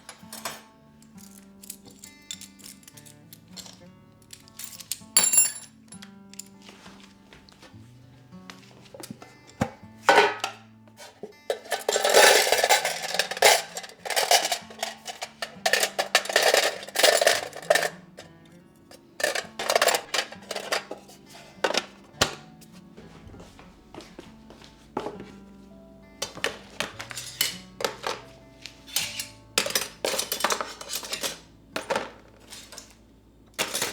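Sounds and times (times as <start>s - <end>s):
kitchen clicks and knocks: 0.0s - 6.6s, 8.9s - 18.3s, 18.9s - 22.5s, 23.9s - 25.4s, 26.2s - 33.0s, 33.6s - 33.9s
soft background music: 0.0s - 33.9s.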